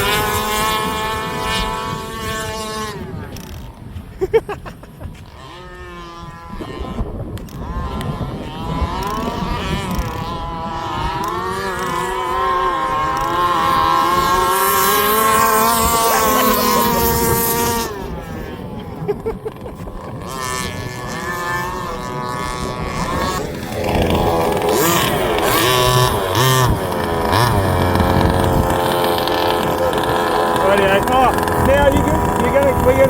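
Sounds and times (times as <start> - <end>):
small two-stroke engine revving: 0.0 - 33.0.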